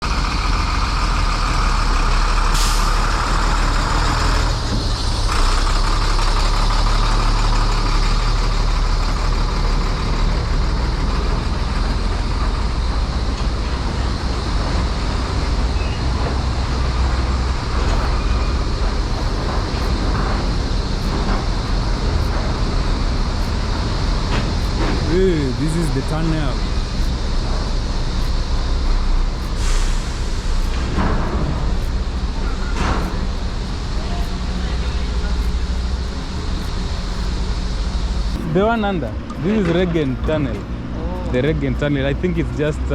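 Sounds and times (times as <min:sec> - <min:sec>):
heavy highway traffic: 0:00.0 - 0:42.9.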